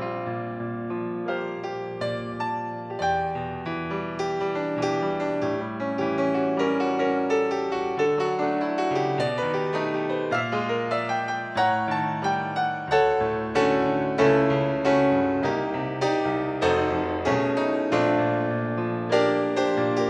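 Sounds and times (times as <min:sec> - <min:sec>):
piano playing slow jazz ballad: 0:00.0 - 0:20.0.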